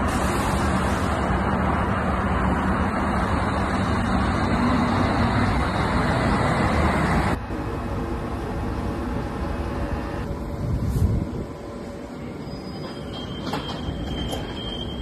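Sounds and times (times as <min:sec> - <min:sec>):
underground train pulling out: 0:00.0 - 0:15.0.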